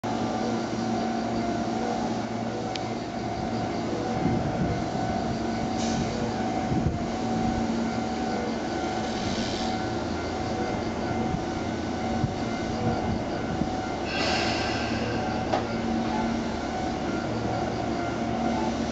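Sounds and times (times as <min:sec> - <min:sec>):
electric train humming: 0:00.0 - 0:18.9.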